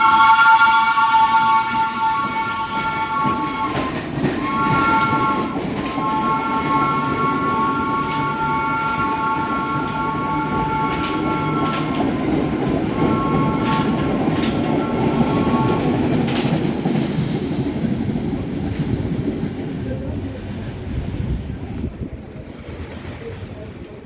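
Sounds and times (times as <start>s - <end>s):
subway train rumbling past: 0.0s - 24.0s
wheels clicking over rail joints: 1.7s - 21.2s.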